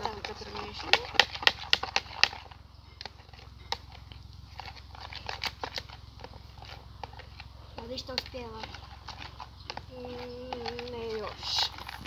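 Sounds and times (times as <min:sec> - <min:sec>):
stirring slime in plastic bowl: 0:00.0 - 0:12.0.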